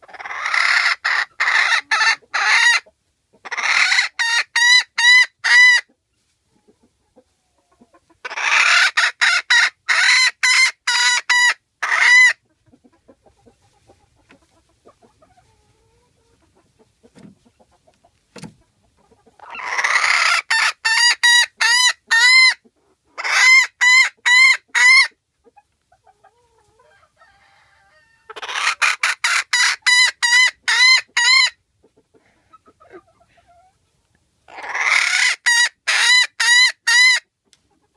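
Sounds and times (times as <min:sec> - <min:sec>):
hen cackling: 0:00.0 - 0:06.0, 0:07.6 - 0:16.9, 0:18.9 - 0:33.7, 0:34.5 - 0:37.9.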